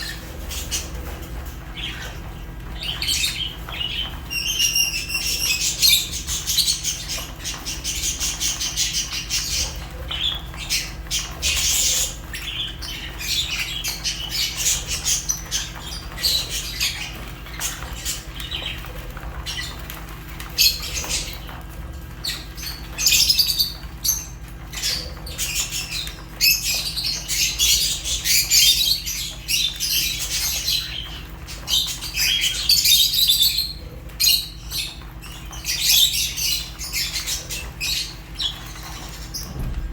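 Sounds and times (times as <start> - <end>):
lovebirds chirping and squawking: 0.0 - 39.9.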